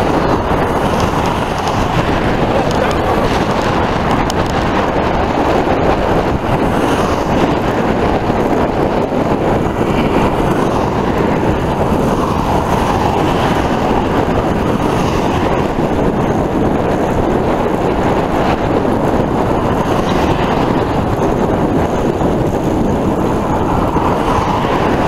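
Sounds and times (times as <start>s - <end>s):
bicycle tyre noise on asphalt: 0.0s - 25.0s
wind over microphone: 0.0s - 25.0s.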